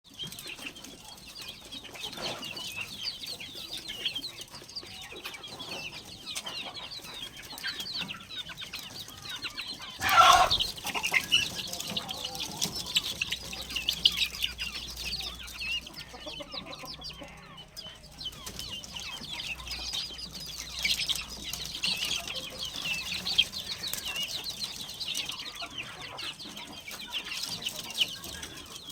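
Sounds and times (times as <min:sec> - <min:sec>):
baby chicks peeping: 0:00.1 - 0:28.9
chickens clucking: 0:00.1 - 0:28.9.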